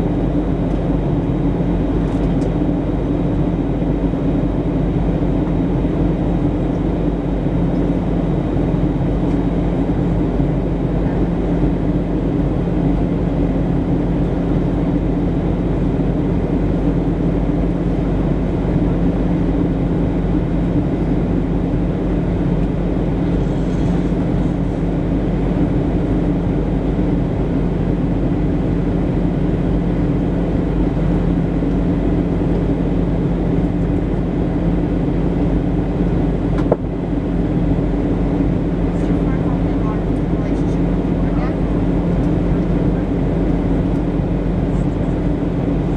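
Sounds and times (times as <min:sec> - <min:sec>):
airflow rush in plane cabin: 0:00.0 - 0:45.9
low jet engine hum: 0:00.0 - 0:45.9.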